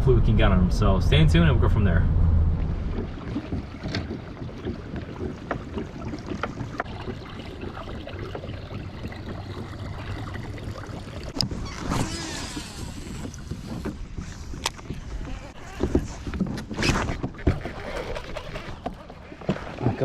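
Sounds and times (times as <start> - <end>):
water lapping against kayak: 2.6 - 20.0.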